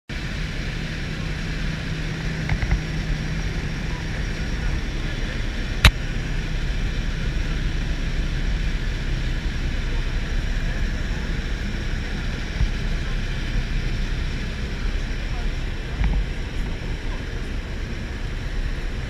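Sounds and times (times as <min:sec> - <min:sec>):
plane engine drone: 0:00.1 - 0:19.0.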